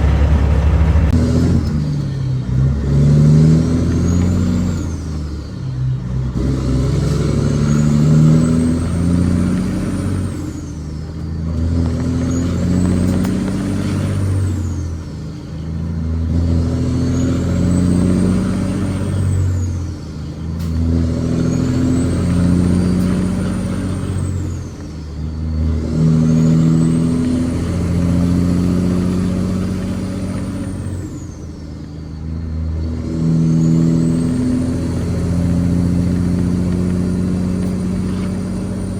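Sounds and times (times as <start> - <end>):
diesel truck engine accelerating: 0.0 - 38.9.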